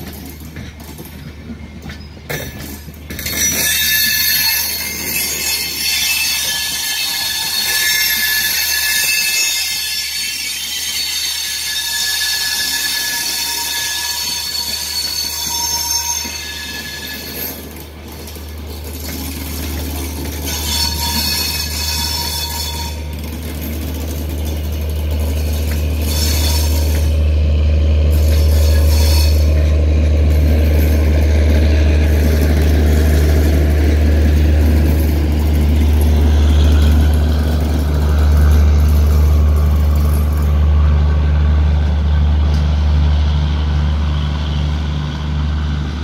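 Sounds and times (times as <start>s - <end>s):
train coaches rumbling on track: 0.0s - 46.0s.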